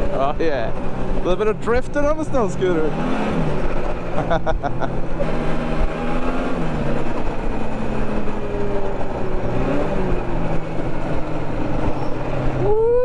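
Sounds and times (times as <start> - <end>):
steady rushing noise: 0.0 - 12.6
snowmobile engine running: 0.0 - 13.0.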